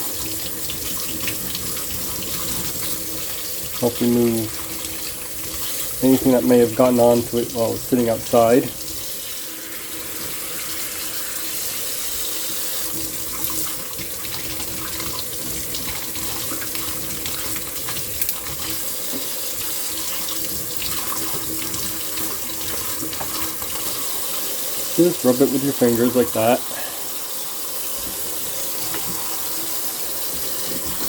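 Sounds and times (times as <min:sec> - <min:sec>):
running water pouring: 0:00.0 - 0:31.0.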